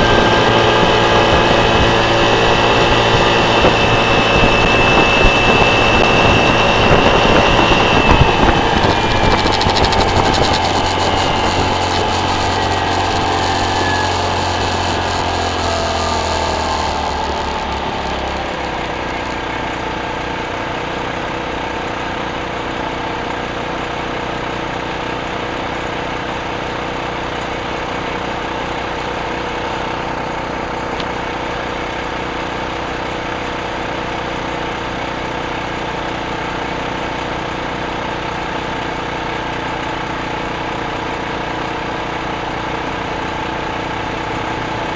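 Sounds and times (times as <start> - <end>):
motorcycle engine slowing and idling: 0.0 - 44.9.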